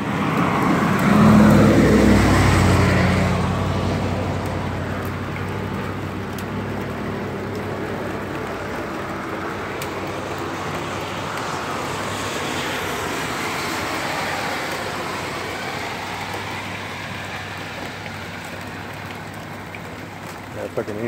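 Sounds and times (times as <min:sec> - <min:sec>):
car tyres hissing on wet road: 0:00.0 - 0:21.0.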